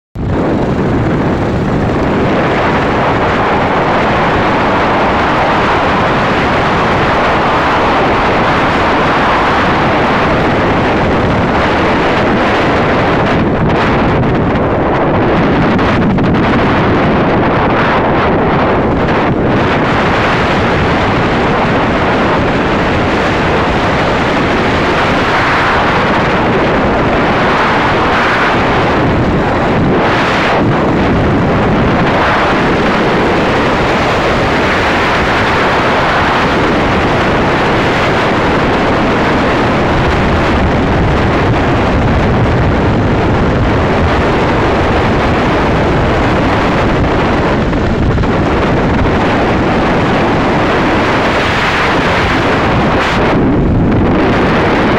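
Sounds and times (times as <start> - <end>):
motorcycle running: 0.2 - 54.9
wind rushing on microphone: 0.2 - 54.9.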